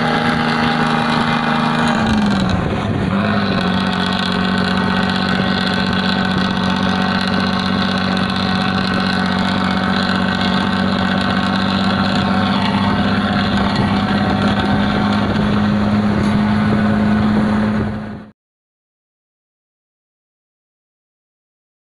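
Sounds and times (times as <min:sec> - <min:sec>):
bus diesel engine exhaust: 0:00.0 - 0:18.3.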